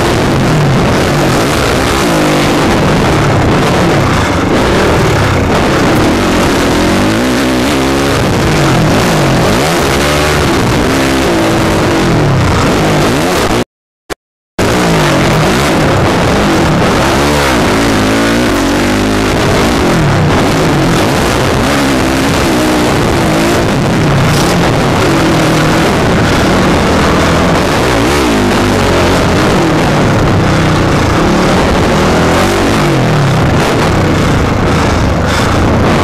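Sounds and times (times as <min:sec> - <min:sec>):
dirt bike engine revving: 0:00.0 - 0:13.7, 0:14.6 - 0:36.0.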